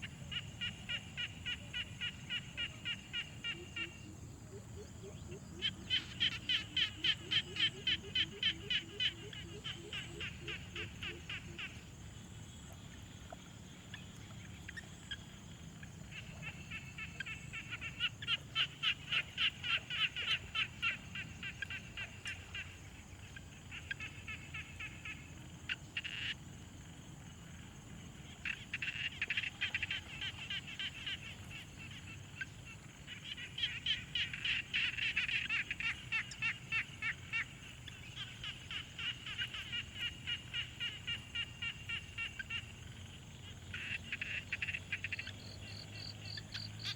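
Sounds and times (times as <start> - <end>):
frogs croaking: 0.0 - 46.9.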